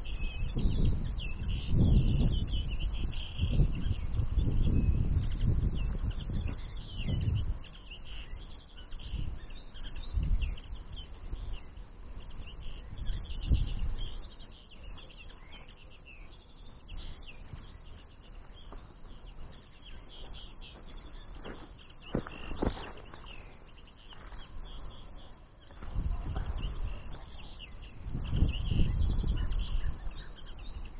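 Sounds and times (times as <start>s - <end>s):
songbirds chirping: 0.0s - 30.9s
wind rumble on microphone: 0.0s - 30.9s.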